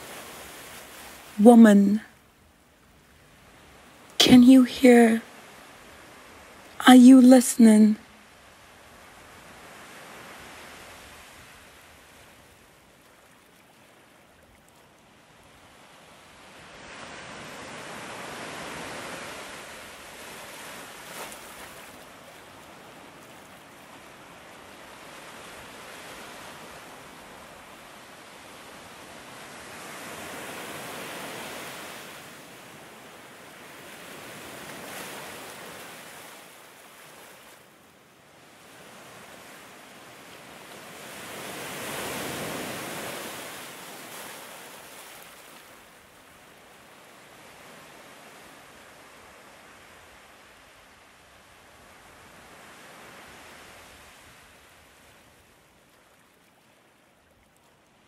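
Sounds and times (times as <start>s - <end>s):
waves breaking on beach: 0.0s - 1.9s, 7.6s - 58.0s.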